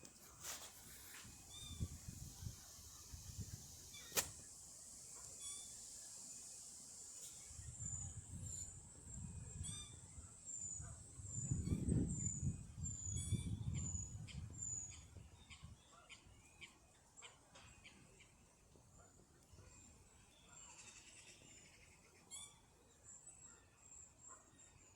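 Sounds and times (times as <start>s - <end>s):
small bird chirping: 1.0s - 4.3s, 5.1s - 18.3s, 19.7s - 24.2s.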